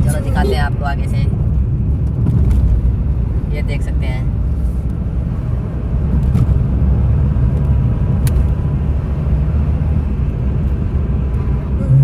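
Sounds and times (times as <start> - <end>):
truck engines rumbling: 0.0 - 12.0.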